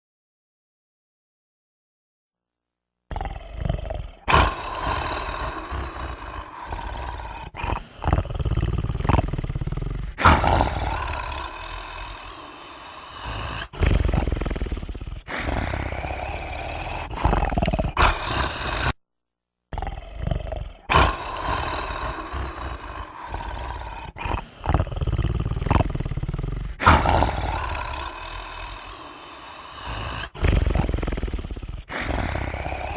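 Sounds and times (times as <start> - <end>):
man snoring loudly: 3.1 - 19.0, 19.7 - 32.9.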